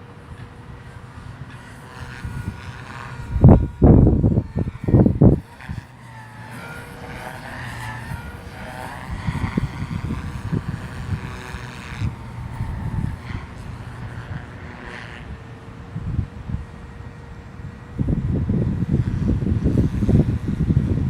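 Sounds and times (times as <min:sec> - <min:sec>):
rc helicopter rotor whine: 0:00.0 - 0:21.0
wind buffeting microphone: 0:00.0 - 0:21.0.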